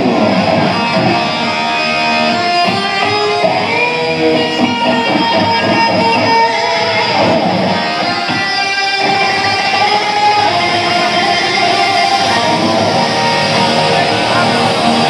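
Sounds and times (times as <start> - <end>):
electric guitar strumming: 0.0 - 15.0
live band playing: 0.0 - 15.0.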